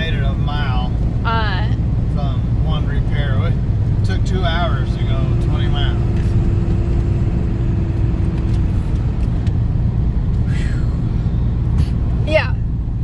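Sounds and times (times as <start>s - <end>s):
engine and road rumble in cabin: 0.0s - 13.0s.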